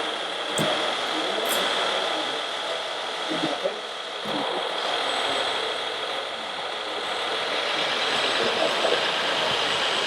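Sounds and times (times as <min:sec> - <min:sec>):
model trucks mechanical drone: 0:00.0 - 0:10.0.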